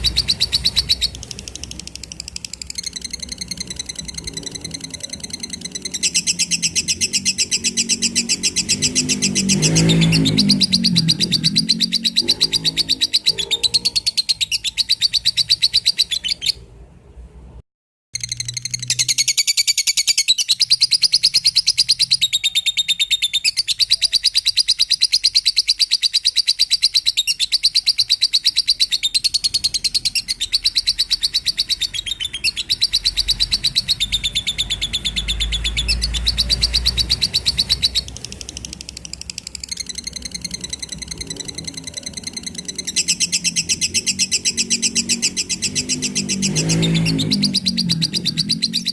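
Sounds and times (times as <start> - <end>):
lovebird chattering song: 0.0 - 16.7, 18.2 - 48.9.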